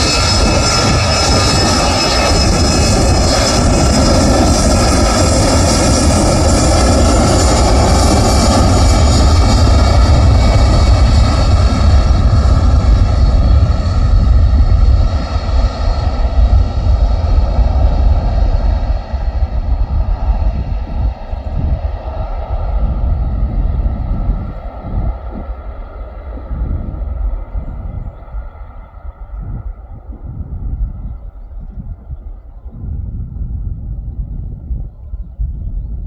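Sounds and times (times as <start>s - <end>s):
airliner engine passing: 0.0s - 36.0s.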